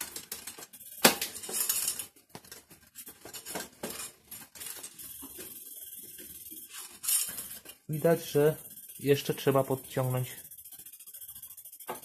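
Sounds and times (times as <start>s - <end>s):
metallic clicks of bicycle parts: 0.0s - 12.0s.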